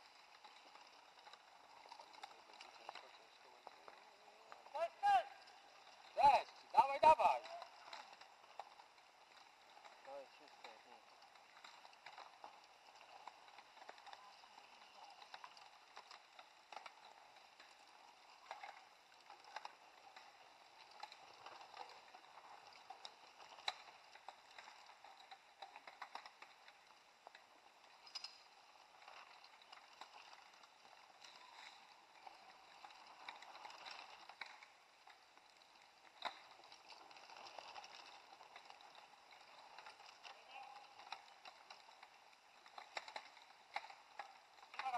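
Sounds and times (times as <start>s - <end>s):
bike clicks and rattles: 0.0s - 44.9s
bike tyres rustling on dirt: 0.0s - 44.9s.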